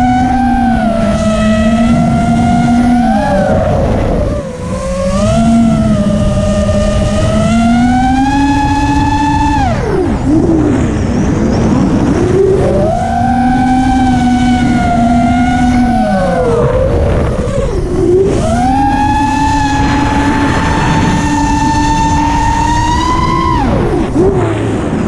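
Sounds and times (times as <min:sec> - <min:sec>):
drone motors whining: 0:00.0 - 0:25.0
wind rushing: 0:00.0 - 0:25.0.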